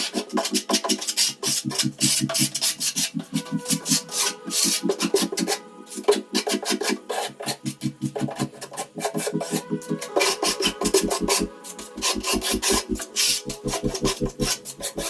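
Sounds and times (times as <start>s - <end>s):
music with a steady beat: 0.0s - 15.0s.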